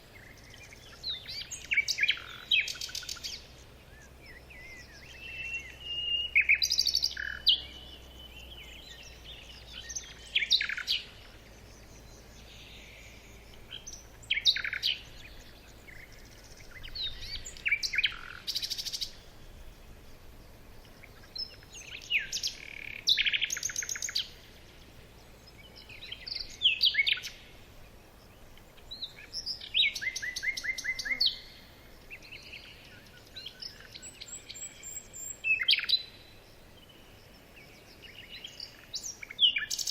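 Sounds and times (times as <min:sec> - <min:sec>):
small bird singing: 0:00.0 - 0:39.9.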